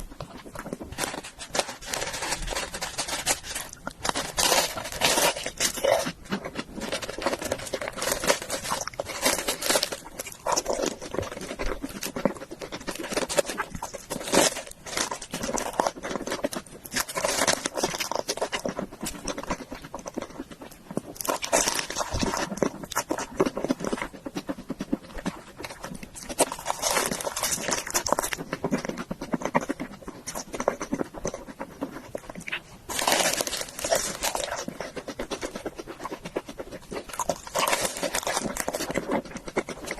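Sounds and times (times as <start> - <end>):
close chewing with mouth clicks: 0.0 - 39.9.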